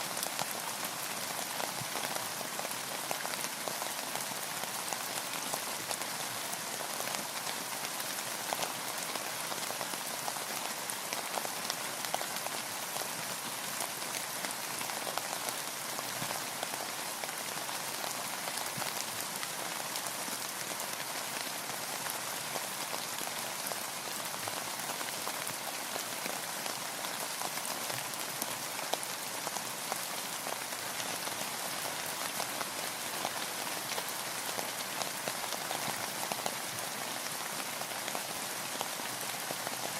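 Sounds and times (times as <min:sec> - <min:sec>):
rain falling on a boat: 0:00.0 - 0:39.9.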